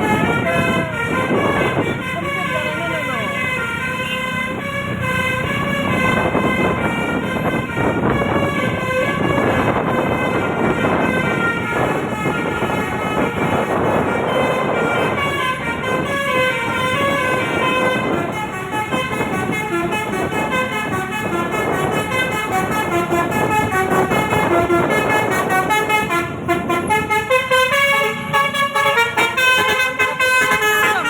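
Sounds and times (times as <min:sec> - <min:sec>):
engine and road noise: 0:00.0 - 0:31.0
multi-tone air horn tune: 0:00.0 - 0:31.0.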